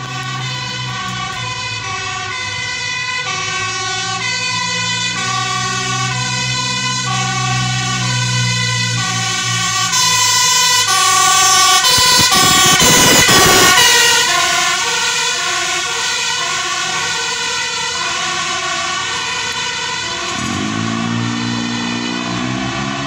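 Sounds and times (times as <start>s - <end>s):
road noise: 0.0s - 23.0s
truck engine: 0.0s - 23.0s
two-tone siren: 0.0s - 23.0s.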